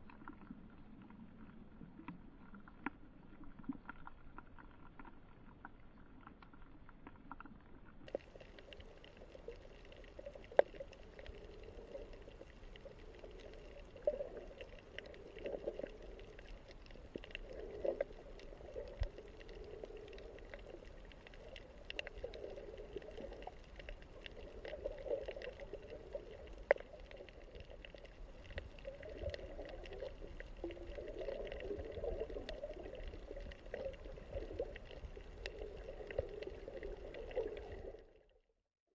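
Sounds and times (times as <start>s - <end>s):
low underwater rushing: 0.0s - 38.4s.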